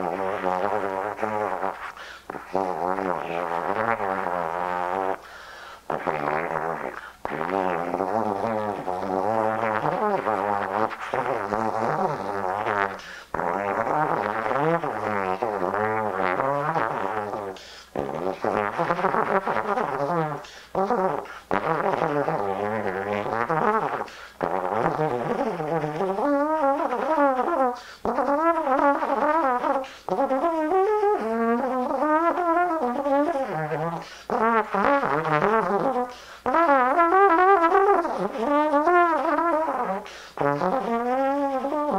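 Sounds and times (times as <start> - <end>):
solo trombone improvisation: 0.0 - 41.9.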